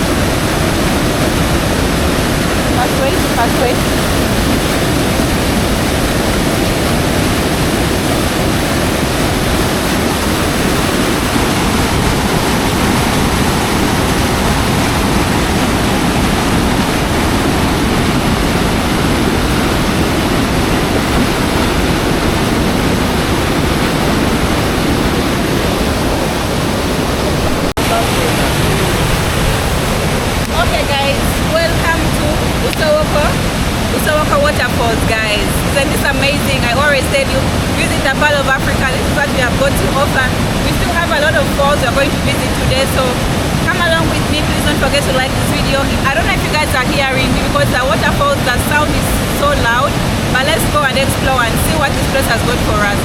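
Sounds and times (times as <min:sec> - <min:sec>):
waterfall roaring over rocks: 0:00.0 - 0:53.0.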